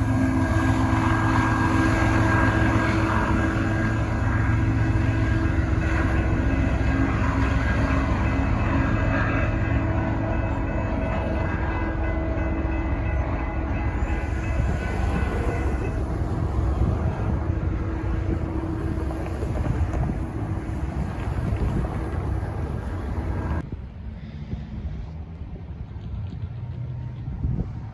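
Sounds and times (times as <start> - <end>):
steady train tones: 0.0 - 25.5
train rumble: 0.0 - 27.9.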